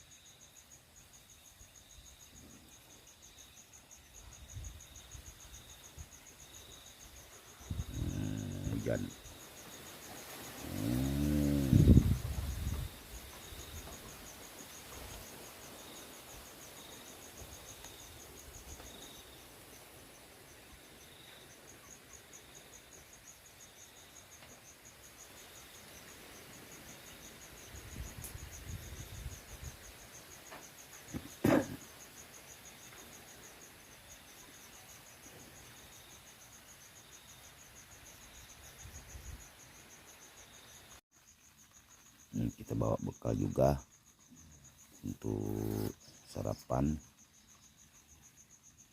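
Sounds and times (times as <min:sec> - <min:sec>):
insects chirping in rapid pulses: 0:00.0 - 0:48.9.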